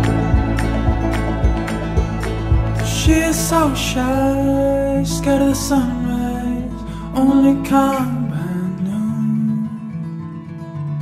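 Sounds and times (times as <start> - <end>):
soft guitar music: 0.0 - 11.0.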